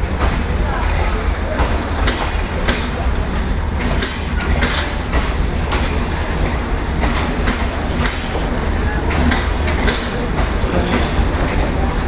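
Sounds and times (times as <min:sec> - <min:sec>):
train rumbling past: 0:00.0 - 0:12.0
wheels clacking over rail joints: 0:00.0 - 0:12.0.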